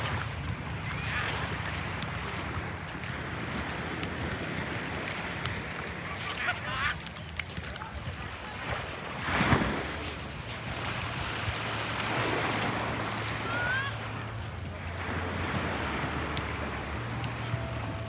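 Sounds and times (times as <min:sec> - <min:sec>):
small waves washing onto shore: 0:00.0 - 0:18.0
wind on microphone: 0:00.0 - 0:18.0.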